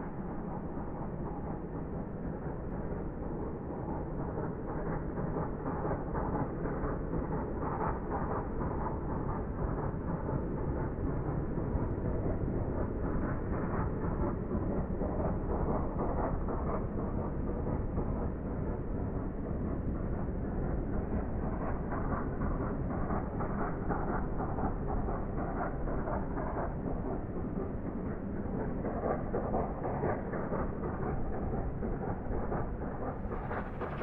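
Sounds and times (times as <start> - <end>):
distant steam locomotive exhaust beat: 0.0 - 34.0.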